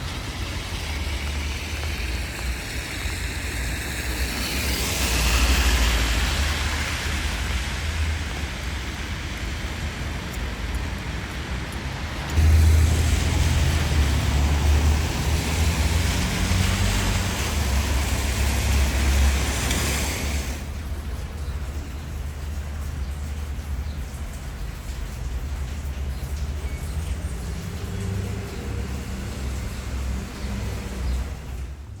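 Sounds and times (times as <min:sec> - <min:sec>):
rain hiss: 0:00.0 - 0:32.0.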